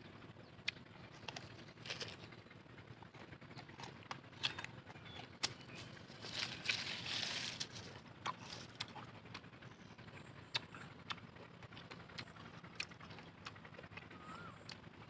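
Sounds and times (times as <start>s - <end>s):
crunchy chewing of mango: 0.0s - 15.0s.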